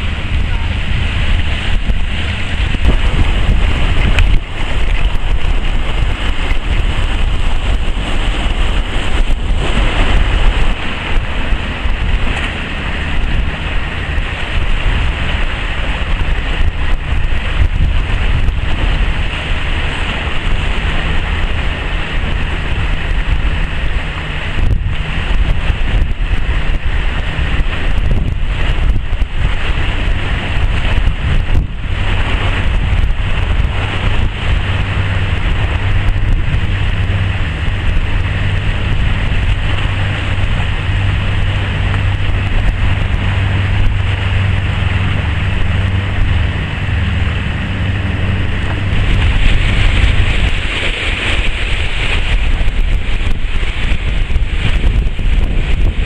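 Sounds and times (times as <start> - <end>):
wind blowing across microphone: 0.0 - 56.0.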